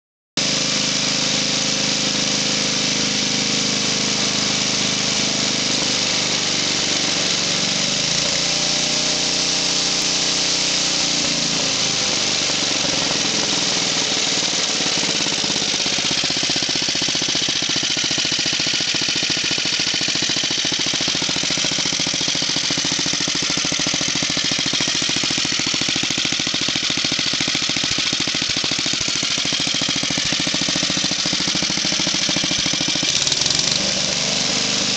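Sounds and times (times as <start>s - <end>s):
snowblower engine running: 0.4s - 34.9s.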